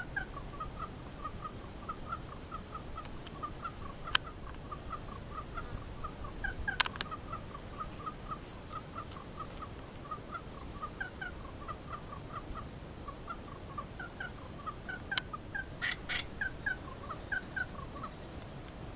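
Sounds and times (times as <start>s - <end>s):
birds calling: 0.0s - 18.9s.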